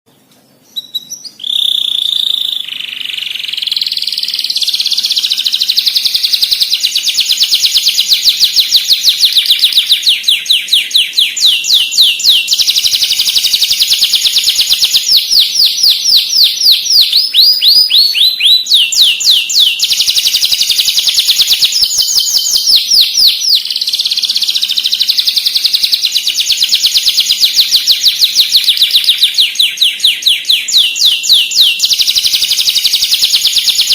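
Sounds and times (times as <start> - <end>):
bird singing rapid high chirps: 0.1 - 33.9.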